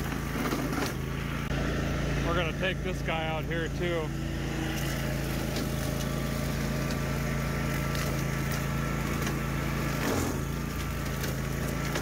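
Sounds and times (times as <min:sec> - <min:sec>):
engines droning: 0:00.0 - 0:12.0.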